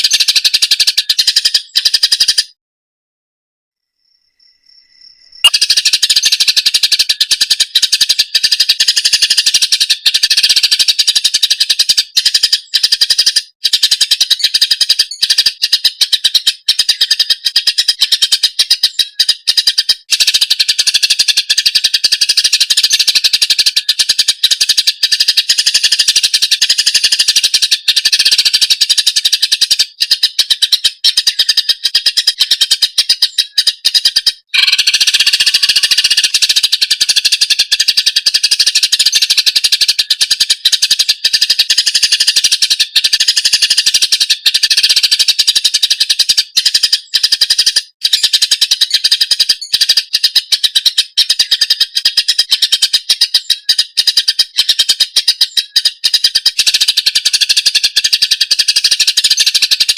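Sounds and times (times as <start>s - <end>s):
bird song chirps and trills: 0.0s - 2.6s, 3.8s - 59.9s.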